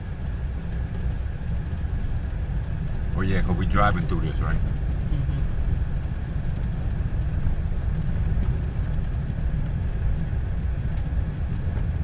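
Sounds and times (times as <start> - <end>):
tyres and engine rumble: 0.0 - 12.0.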